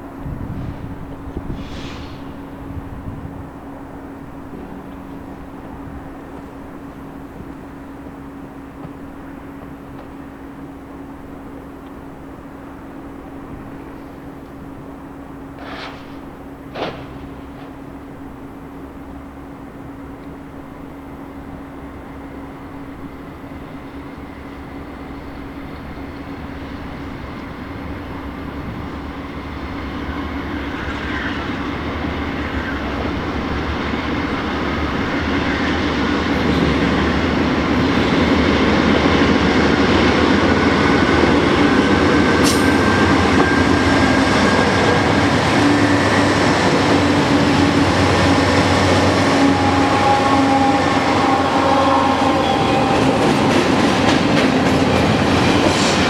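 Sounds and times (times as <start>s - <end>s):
freight train rumble and wheel clatter: 0.0s - 56.0s.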